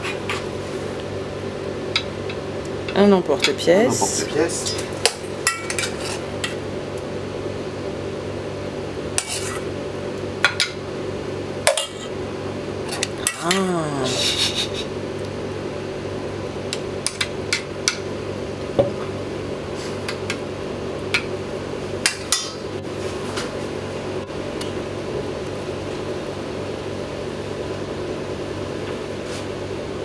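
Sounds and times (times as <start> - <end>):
kitchen machinery hum: 0.0 - 30.0.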